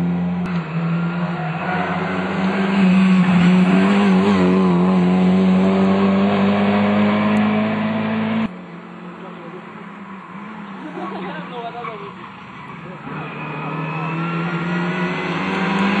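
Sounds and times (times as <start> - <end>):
car engine at high revs: 0.0 - 11.0, 12.6 - 16.0.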